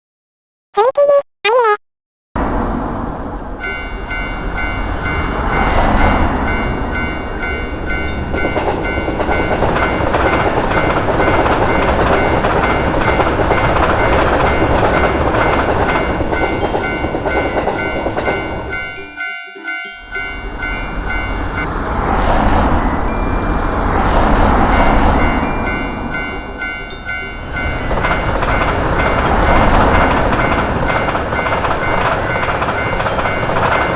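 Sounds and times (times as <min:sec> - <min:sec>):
train rolling past: 0:02.4 - 0:19.1, 0:20.1 - 0:33.9
level-crossing alarm bell ringing: 0:03.4 - 0:33.9.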